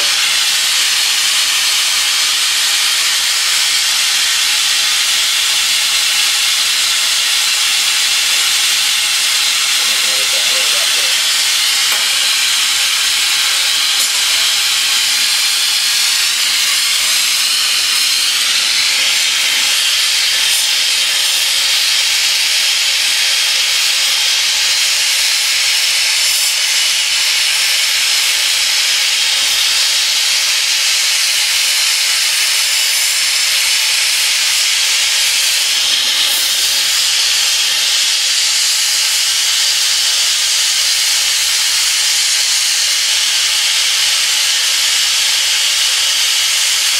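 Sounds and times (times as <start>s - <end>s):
torch flame hissing: 0.0s - 46.9s.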